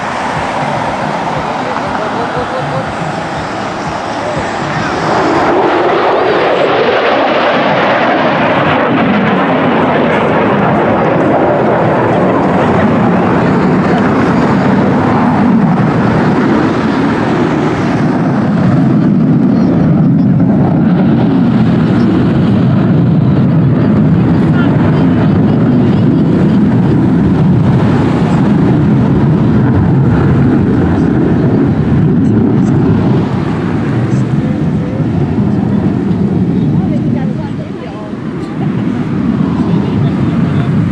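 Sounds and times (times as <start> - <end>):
fighter jet passing overhead: 0.0 - 40.9.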